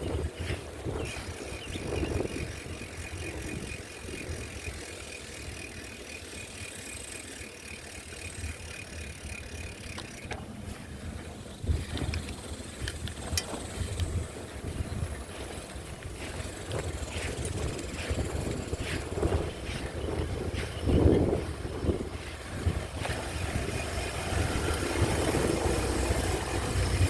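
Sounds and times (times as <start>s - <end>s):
wind rumble on microphone: 0.0s - 27.0s
bicycle freewheel ticking: 0.5s - 10.4s, 15.3s - 27.0s.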